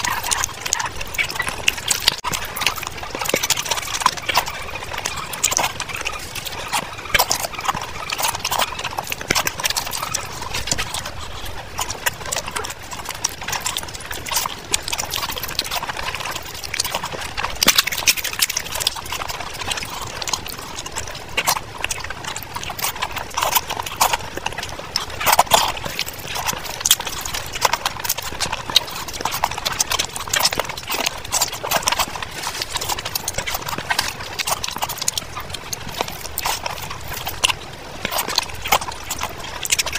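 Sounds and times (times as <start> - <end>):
mouth clicks: 0.0 - 39.9
wet chewing and lip-smacking: 0.0 - 39.9.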